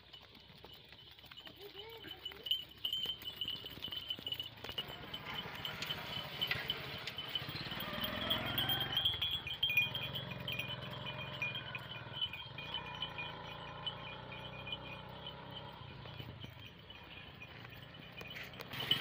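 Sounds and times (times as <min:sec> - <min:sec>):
goat bells tinkling: 0:00.0 - 0:19.0.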